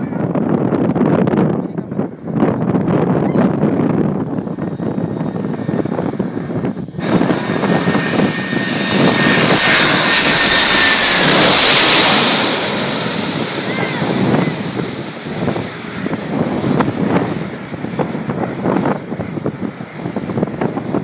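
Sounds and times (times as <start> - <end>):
jet airliner roaring overhead: 0.0 - 21.0.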